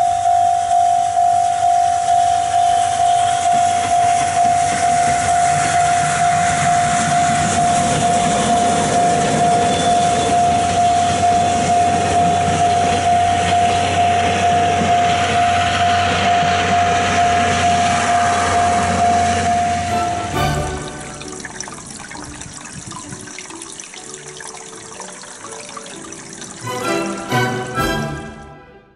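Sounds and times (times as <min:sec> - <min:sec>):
steam train rumbling past: 0:00.0 - 0:21.9, 0:26.6 - 0:28.6.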